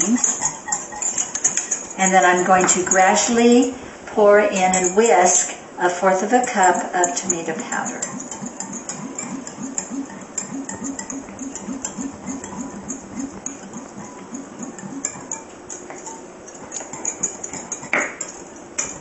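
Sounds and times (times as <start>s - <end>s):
whisk scraping glass bowl: 0.0s - 3.9s, 4.5s - 19.0s.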